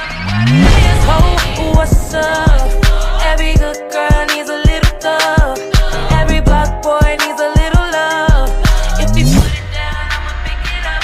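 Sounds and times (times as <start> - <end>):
hip hop track with heavy bass: 0.0 - 11.0.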